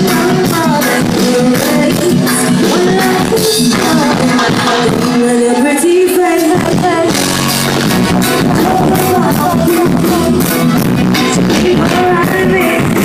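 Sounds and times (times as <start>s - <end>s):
woman singing: 0.0s - 7.3s, 8.0s - 13.0s
live reggae band: 0.0s - 13.0s.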